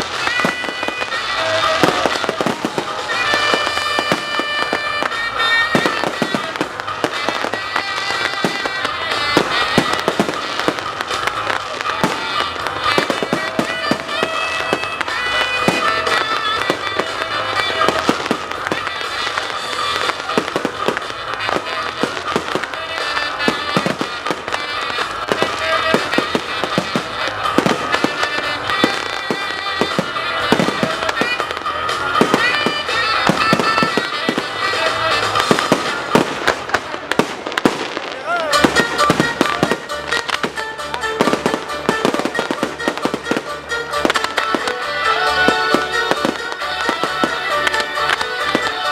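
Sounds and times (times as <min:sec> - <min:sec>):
fireworks bangs and crackling: 0:00.0 - 0:48.9
music playing: 0:00.0 - 0:48.9.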